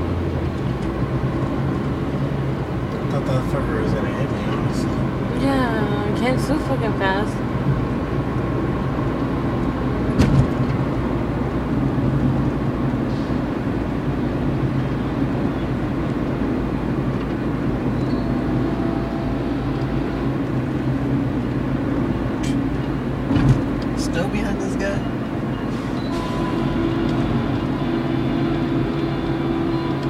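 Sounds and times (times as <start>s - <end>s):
car engine and road hum: 0.0s - 30.0s.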